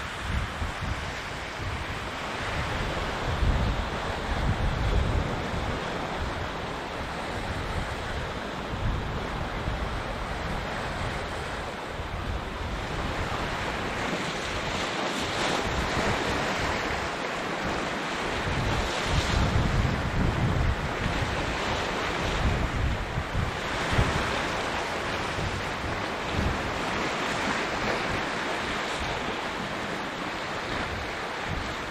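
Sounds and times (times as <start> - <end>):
sea waves washing on shore: 0.0 - 31.9
wind rumble on microphone: 0.0 - 31.9.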